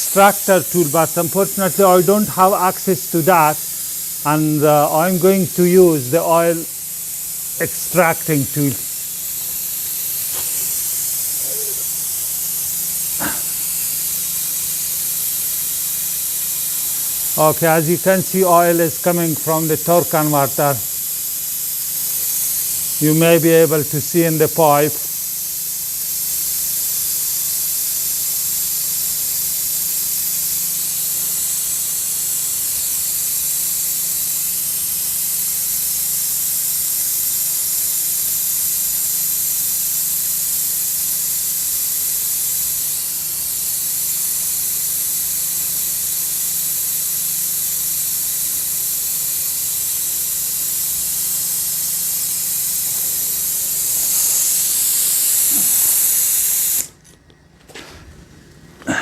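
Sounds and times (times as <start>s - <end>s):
oil extractor hissing: 0.0s - 57.2s.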